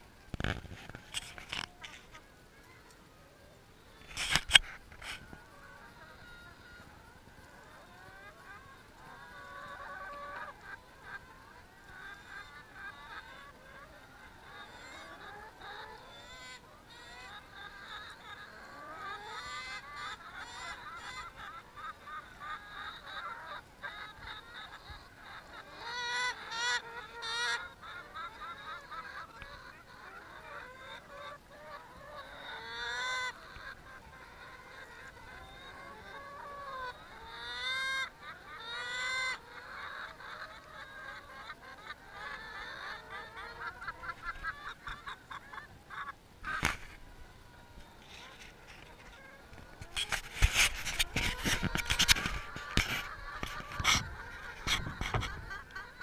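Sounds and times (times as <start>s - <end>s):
hens calling and clucking: 0.0s - 56.0s.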